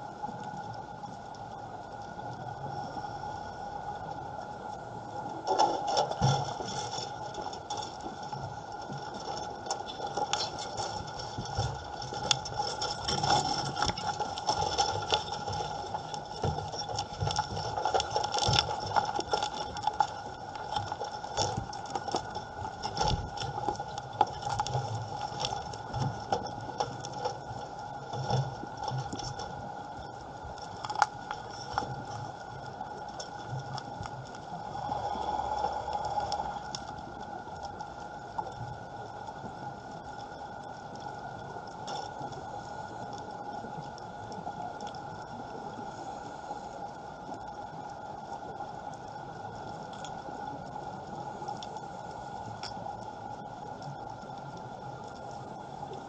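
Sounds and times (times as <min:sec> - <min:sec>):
steady underwater hum: 0:00.0 - 0:56.0
underwater crackling and clicking: 0:00.0 - 0:56.0.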